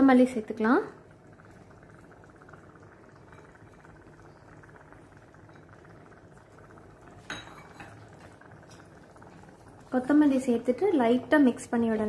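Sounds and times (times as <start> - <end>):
gravy simmering with fine crackle: 0.0 - 12.0.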